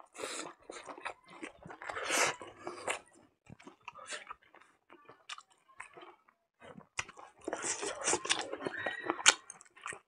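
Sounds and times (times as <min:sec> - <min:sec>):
chewing and lip-smacking: 0:00.0 - 0:10.0.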